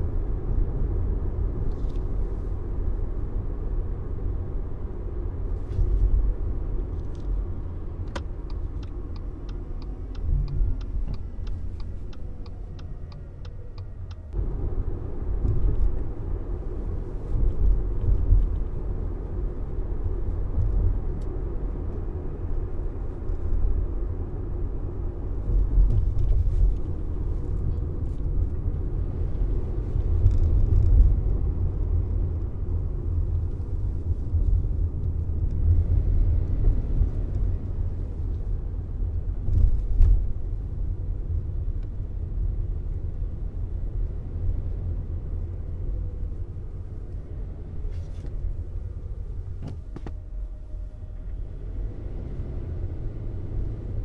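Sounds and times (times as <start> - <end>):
car driving rumble: 0.0 - 54.0.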